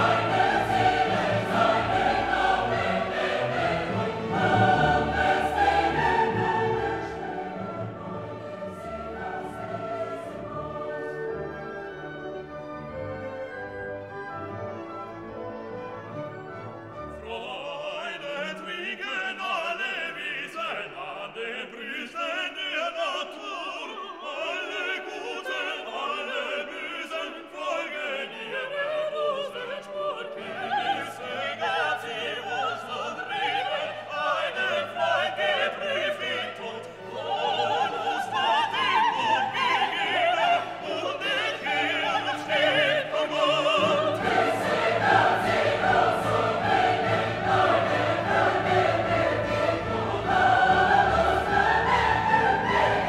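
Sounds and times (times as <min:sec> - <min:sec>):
orchestral music with operatic singing: 0:00.0 - 0:53.0.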